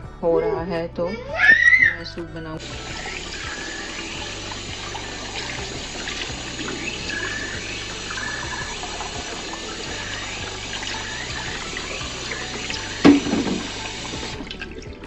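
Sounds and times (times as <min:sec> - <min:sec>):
tap water splashing into sink: 0:02.6 - 0:15.0.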